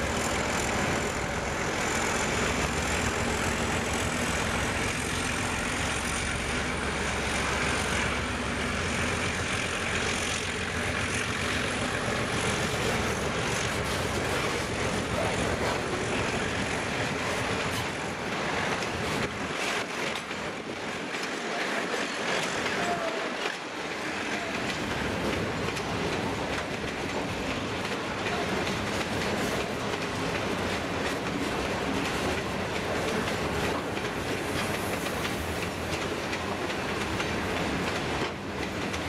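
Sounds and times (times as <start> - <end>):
diesel locomotive engine drone: 0.0 - 39.0
train wagons rumbling past: 0.0 - 39.0.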